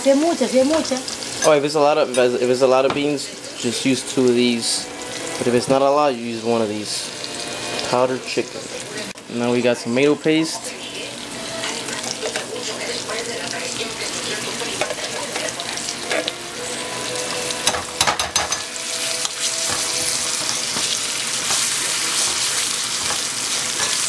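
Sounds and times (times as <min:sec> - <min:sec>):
beans sizzling in a pot: 0:00.0 - 0:24.0.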